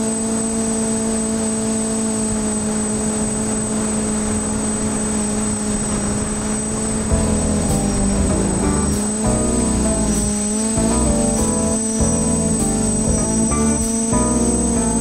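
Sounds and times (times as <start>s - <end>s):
quadcopter motors droning: 0.0s - 15.0s
thin high whine: 0.0s - 15.0s.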